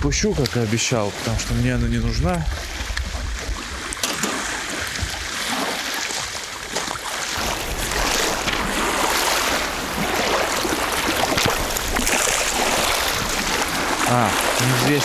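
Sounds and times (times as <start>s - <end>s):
waves washing against shore: 0.0s - 15.0s.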